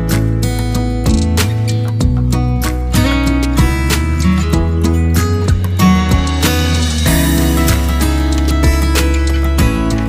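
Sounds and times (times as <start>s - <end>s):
steady low bass: 0.0s - 10.0s
strummed acoustic guitar: 0.0s - 10.0s.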